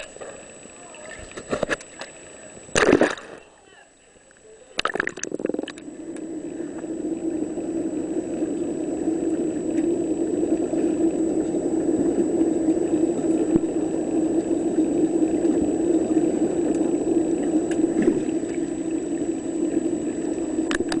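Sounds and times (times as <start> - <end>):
underwater thruster motors humming: 0.0 - 21.0.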